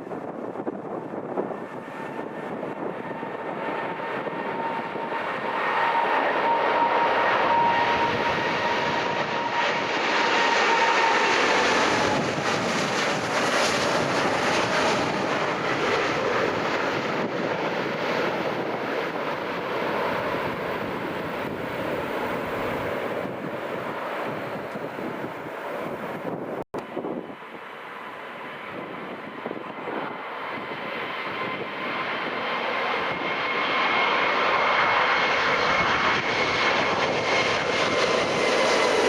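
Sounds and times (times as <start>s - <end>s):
jet airliner passing: 0.0s - 39.0s.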